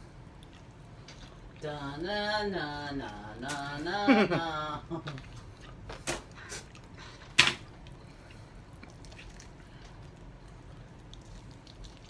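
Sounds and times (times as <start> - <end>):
faint chewing: 0.0 - 3.8, 5.0 - 12.0.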